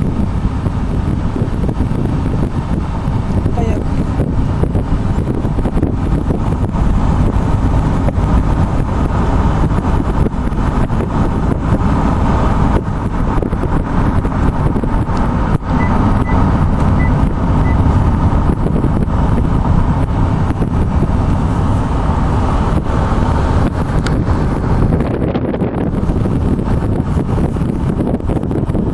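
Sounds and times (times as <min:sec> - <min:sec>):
vehicle rumbling in motion: 0:00.0 - 0:28.9.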